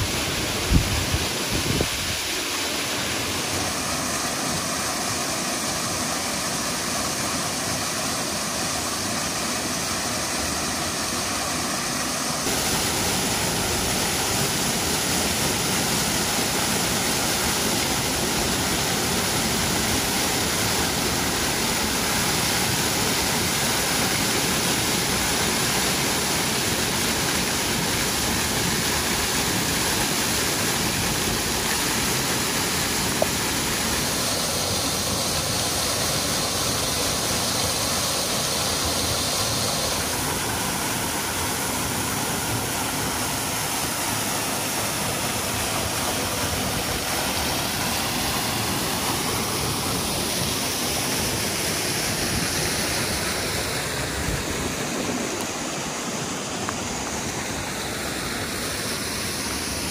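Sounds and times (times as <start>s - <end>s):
waterfall pouring into pool: 0.0s - 59.9s.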